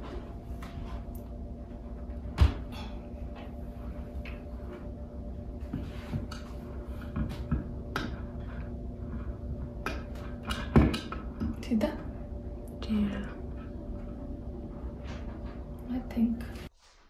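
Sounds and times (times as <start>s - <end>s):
faint steady hum: 0.0s - 16.7s.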